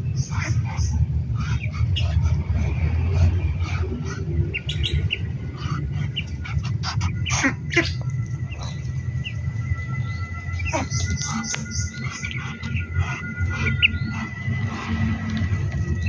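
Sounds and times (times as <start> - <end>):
ducklings peeping: 0.0 - 16.0
steady low rumble: 0.0 - 16.0.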